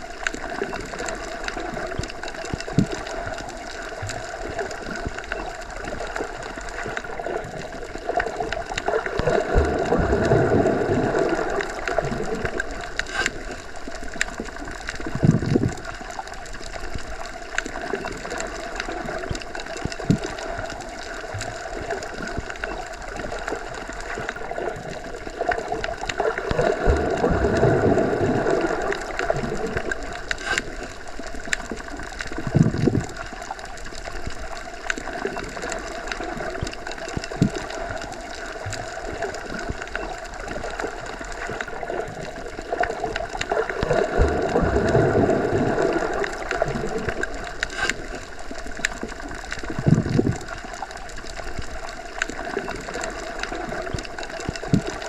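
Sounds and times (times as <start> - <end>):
muffled underwater water wash: 0.0 - 55.0
small underwater clicks and pops: 0.0 - 55.0.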